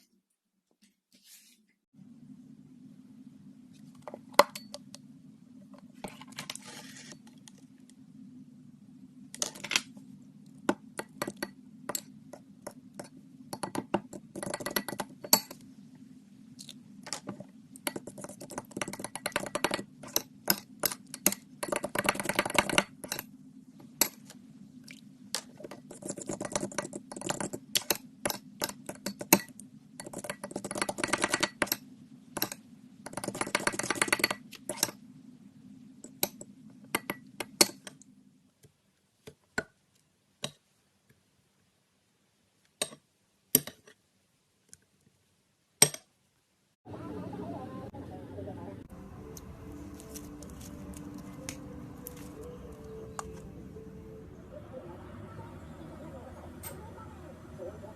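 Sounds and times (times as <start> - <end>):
steady low hum: 1.9 - 38.6, 46.9 - 57.9.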